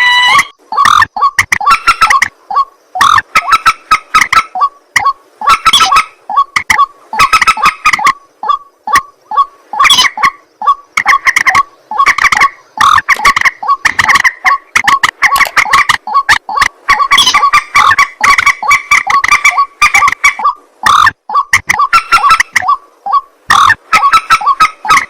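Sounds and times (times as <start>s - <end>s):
waterhen harsh croaking calls: 0.0s - 25.0s.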